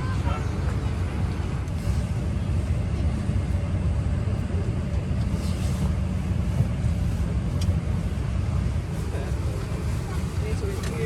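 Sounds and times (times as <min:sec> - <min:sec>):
airliner cabin rumble and hiss: 0:00.0 - 0:11.0.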